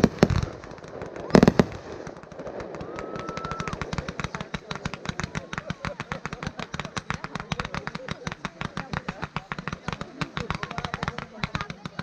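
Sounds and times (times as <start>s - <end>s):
fireworks crackling pops: 0.0s - 12.0s.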